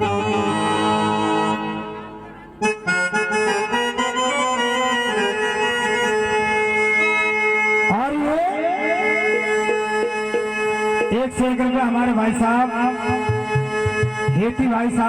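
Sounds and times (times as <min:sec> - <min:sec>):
harmonium chords: 0:00.0 - 0:15.0.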